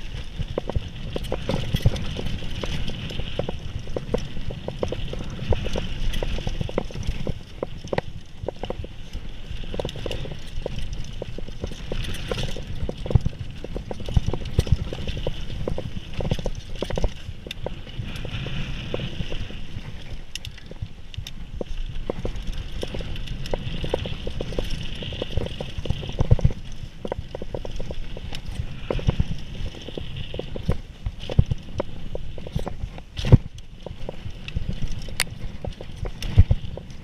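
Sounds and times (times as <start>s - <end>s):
bike clacking and rattling: 0.0s - 37.0s.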